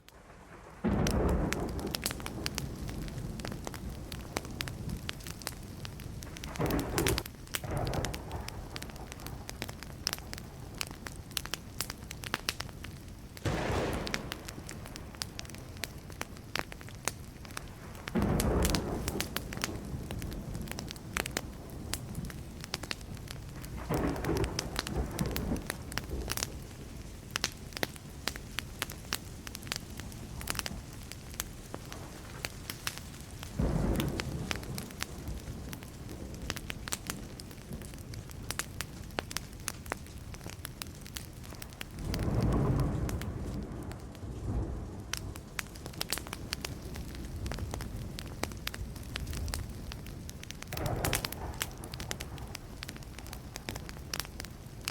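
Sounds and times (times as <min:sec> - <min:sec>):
campfire crackling and popping: 0:00.0 - 0:54.9
swell of fire noise: 0:00.0 - 0:54.9.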